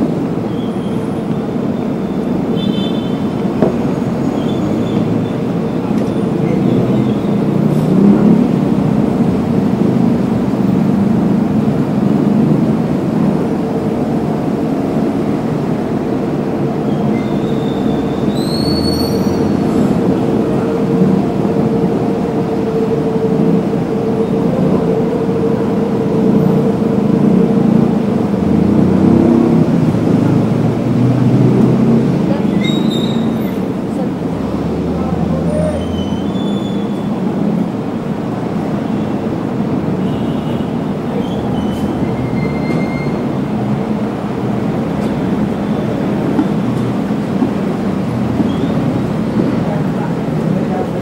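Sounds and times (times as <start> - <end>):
road traffic drone: 0.0 - 51.0.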